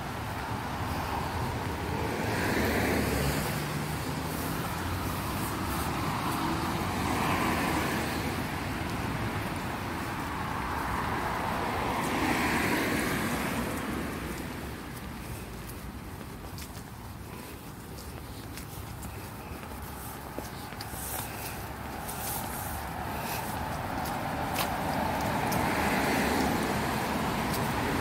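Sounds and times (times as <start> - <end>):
cars driving past: 0.0 - 28.0
steady traffic hum: 0.0 - 28.0.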